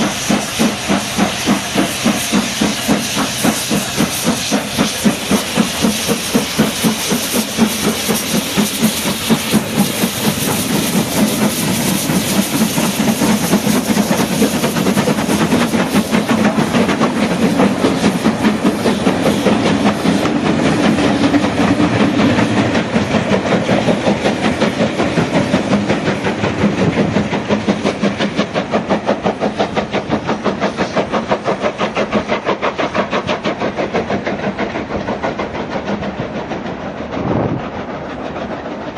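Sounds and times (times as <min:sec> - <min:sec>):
steam hiss: 0:00.0 - 0:38.9
steam locomotive rhythmic beat: 0:00.0 - 0:38.9.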